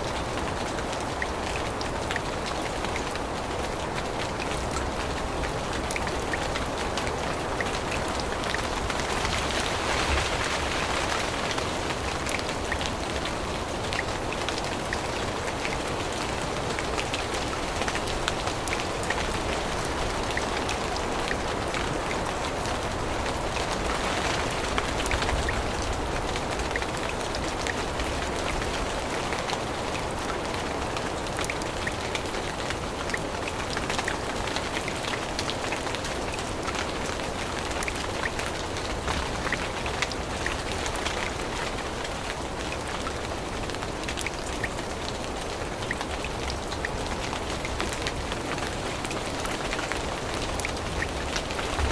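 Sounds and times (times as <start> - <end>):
raindrops ticking close by: 0.0 - 51.9
steady rain in a forest: 0.0 - 51.9.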